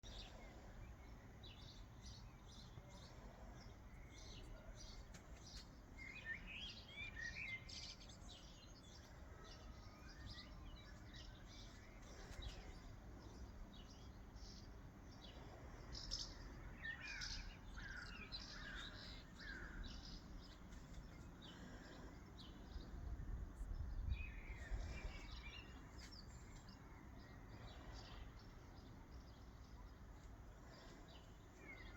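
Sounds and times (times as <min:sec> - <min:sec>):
birds chirping and singing: 0:00.0 - 0:22.9, 0:23.6 - 0:31.9.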